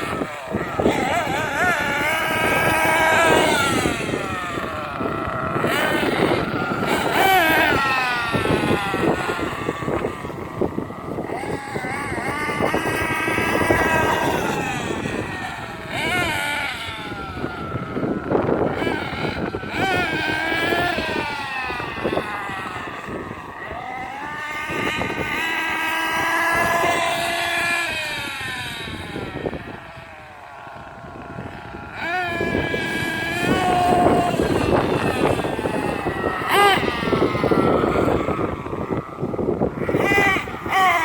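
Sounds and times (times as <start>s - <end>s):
rc car engine revving: 0.0s - 41.0s
wind noise on microphone: 0.0s - 41.0s.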